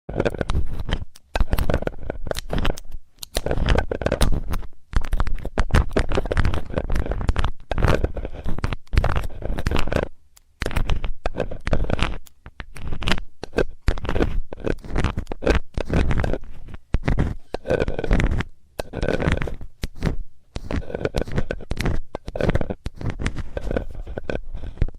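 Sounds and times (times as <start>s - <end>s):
metal tool scraping microphone: 0.1s - 24.9s.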